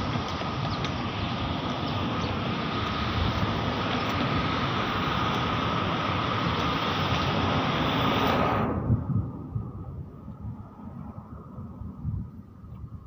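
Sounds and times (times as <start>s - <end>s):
road traffic noise: 0.0s - 13.0s
wind rumbling on microphone: 0.0s - 13.0s.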